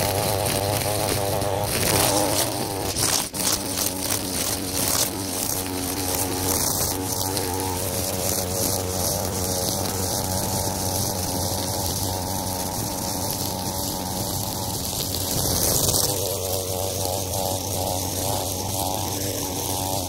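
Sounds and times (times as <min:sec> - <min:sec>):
string trimmer cutting grass: 0:00.0 - 0:20.0.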